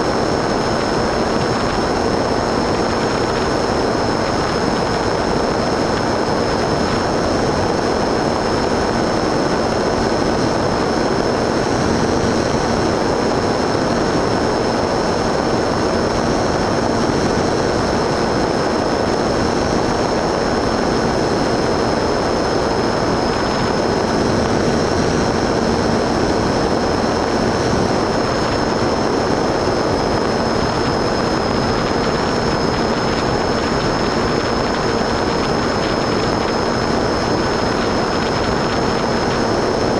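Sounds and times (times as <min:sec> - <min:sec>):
motor and propeller drone: 0:00.0 - 0:39.9
thin high whine: 0:00.0 - 0:39.9.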